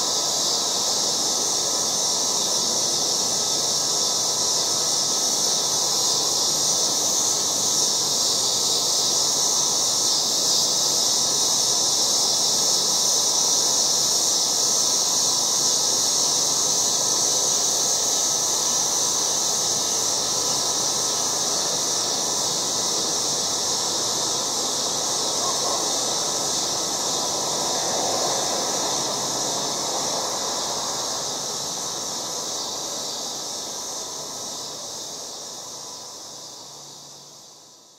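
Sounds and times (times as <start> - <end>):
cicadas buzzing: 0.0 - 37.9.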